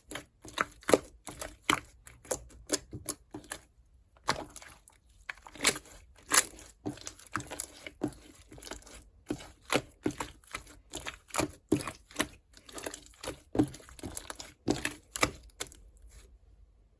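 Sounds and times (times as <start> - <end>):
slime squishing by hand: 0.0 - 16.4.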